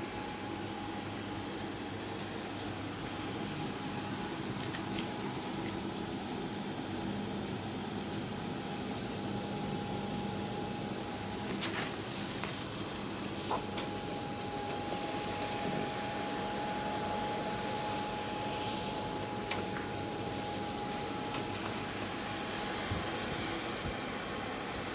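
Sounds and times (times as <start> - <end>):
stove fan running: 0.0 - 24.9.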